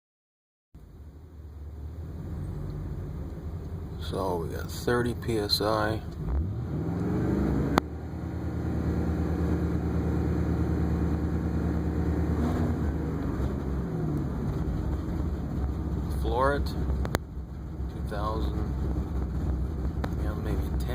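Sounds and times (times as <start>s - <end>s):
truck engine driving: 0.8s - 20.9s.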